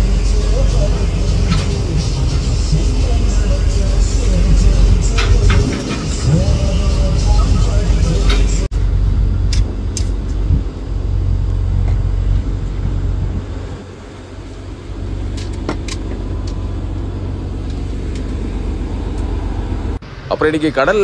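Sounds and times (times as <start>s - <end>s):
boat diesel engine droning: 0.0s - 21.0s.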